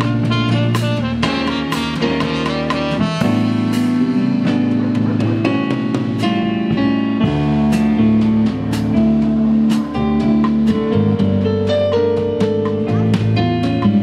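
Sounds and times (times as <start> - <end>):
drum kit with cymbals: 0.0 - 14.0
keyboard: 0.0 - 14.0.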